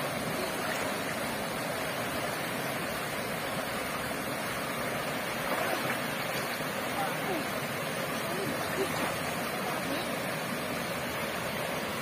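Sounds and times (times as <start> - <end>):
water rushing from a small cascade: 0.0 - 12.0.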